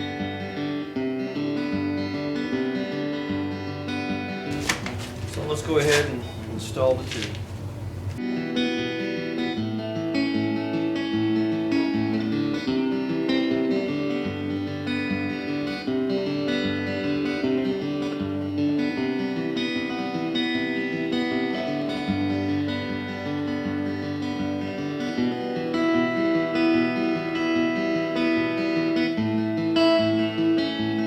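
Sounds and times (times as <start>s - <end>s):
acoustic guitar instrumental: 0.0s - 31.0s.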